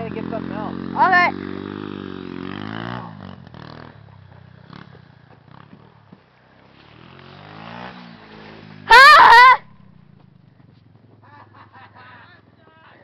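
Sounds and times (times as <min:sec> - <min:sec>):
pit bike engine droning: 0:00.0 - 0:13.0.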